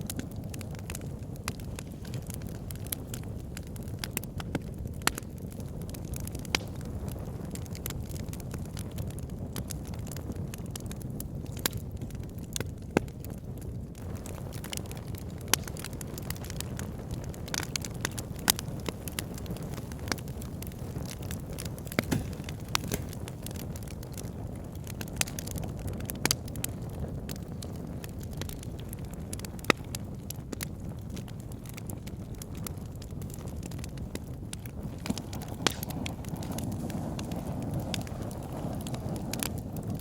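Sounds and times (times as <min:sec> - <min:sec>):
logs burning with crackles: 0:00.0 - 0:40.0.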